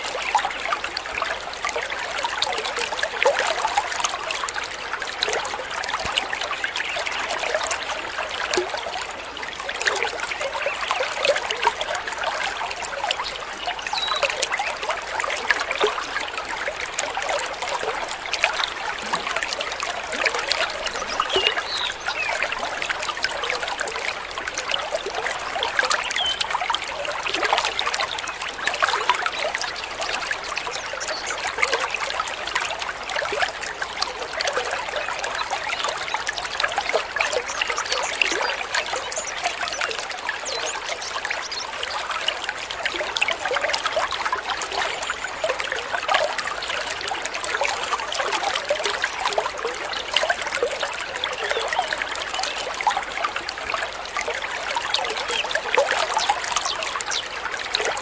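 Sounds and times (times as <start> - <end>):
water trickling over stones: 0.0 - 58.0.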